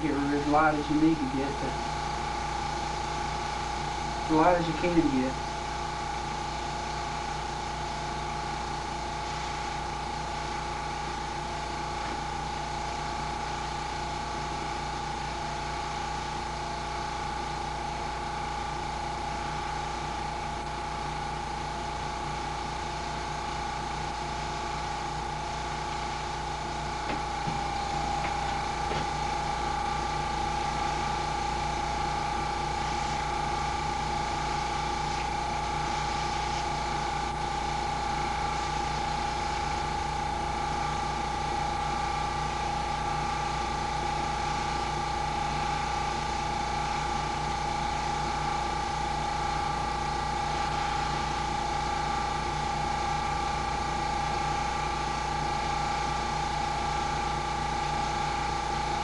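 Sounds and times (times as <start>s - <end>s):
airbrush compressor motor hum: 0.0s - 18.2s, 21.4s - 55.6s.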